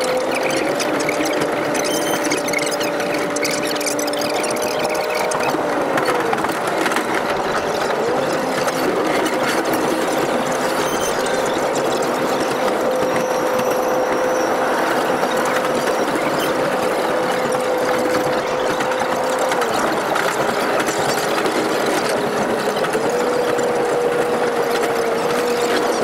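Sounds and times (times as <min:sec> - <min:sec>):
train engine tone: 0:00.0 - 0:26.0
train mechanical clatter: 0:00.0 - 0:26.0.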